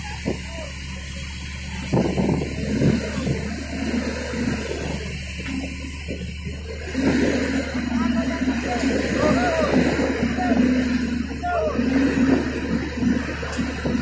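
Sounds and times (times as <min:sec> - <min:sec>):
diesel engines running hard: 0:00.0 - 0:14.0
low hum: 0:00.0 - 0:14.0.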